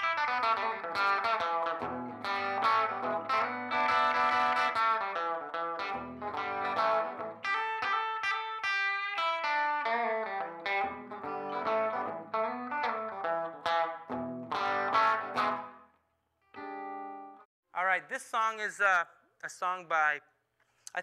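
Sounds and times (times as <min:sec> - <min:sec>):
electric guitar playing blues: 0:00.0 - 0:17.4.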